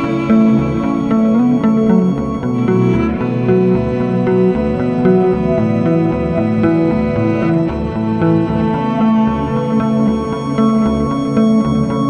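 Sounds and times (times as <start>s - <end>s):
low pulsing bass line: 0.0s - 12.0s
sustained synth notes: 0.0s - 12.0s.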